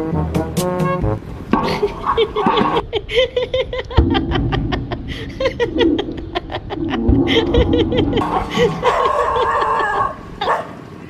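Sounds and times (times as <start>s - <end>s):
short laughing bursts: 1.6s - 10.6s.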